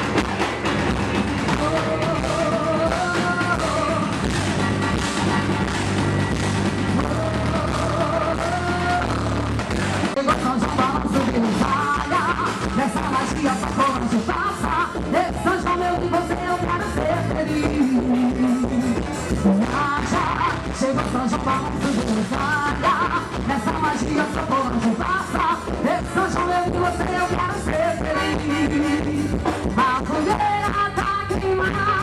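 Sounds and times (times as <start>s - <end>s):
folk dance music with a beat: 0.0s - 32.0s.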